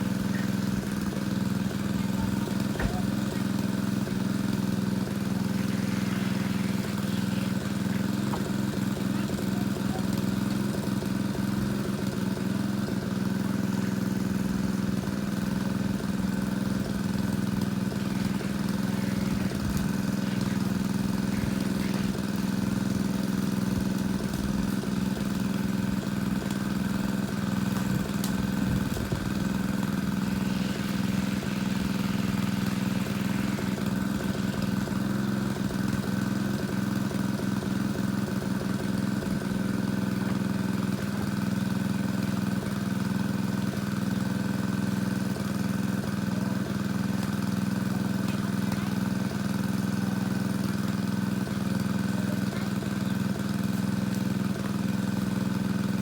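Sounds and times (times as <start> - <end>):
engine-driven water pump running: 0.0 - 56.0.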